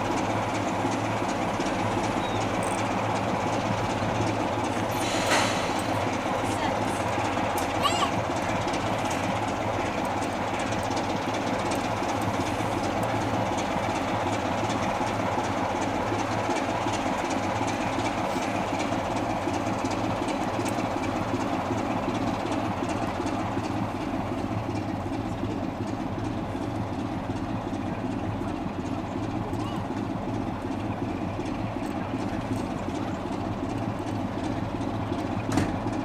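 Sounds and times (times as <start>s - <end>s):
diesel locomotive idling: 0.0s - 36.0s.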